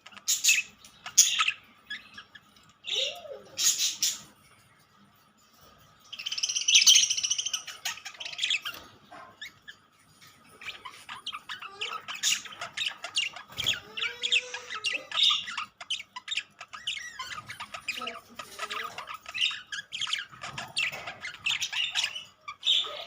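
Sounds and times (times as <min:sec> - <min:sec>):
budgerigars chattering and chirping: 0:00.0 - 0:04.6, 0:06.0 - 0:23.0.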